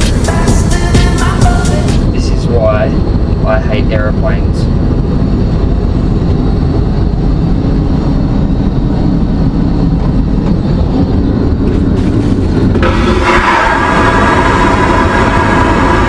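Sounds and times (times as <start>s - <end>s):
airliner cabin rumble: 0.0s - 16.0s
rushing noise with high tone: 0.0s - 16.0s.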